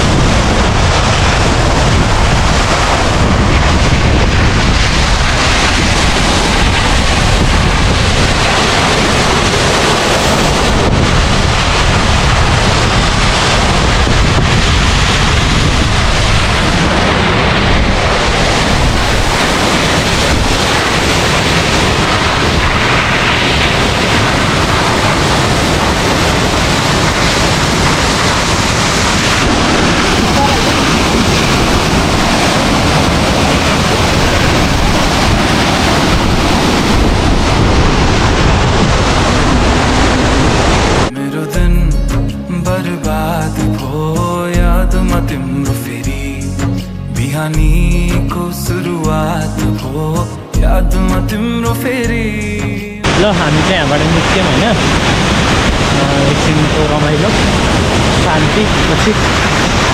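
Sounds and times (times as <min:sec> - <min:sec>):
wind buffeting microphone: 0:00.0 - 0:41.1, 0:53.0 - 0:59.9
waterfall rushing: 0:00.0 - 0:41.2, 0:53.0 - 0:59.9.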